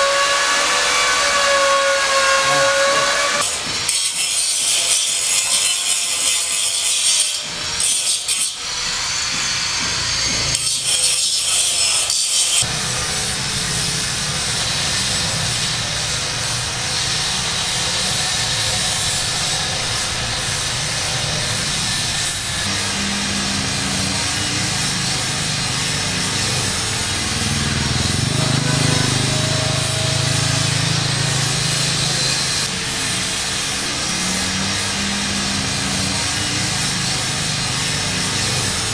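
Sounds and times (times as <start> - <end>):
rasping construction tool: 0.0 - 38.9.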